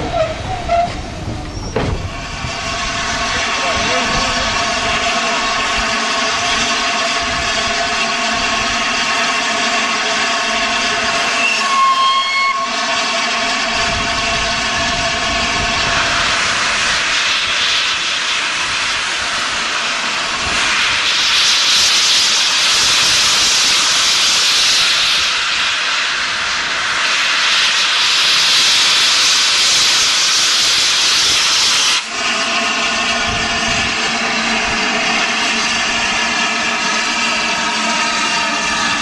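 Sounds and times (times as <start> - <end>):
steam locomotive hissing steam: 0.0 - 39.0.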